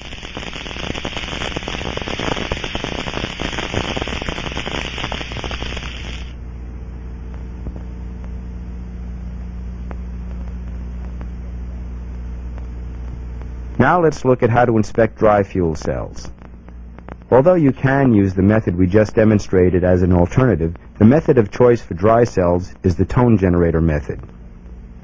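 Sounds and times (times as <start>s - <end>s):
dense crackling over hiss: 0.0s - 25.0s
low steady hum: 0.0s - 25.0s.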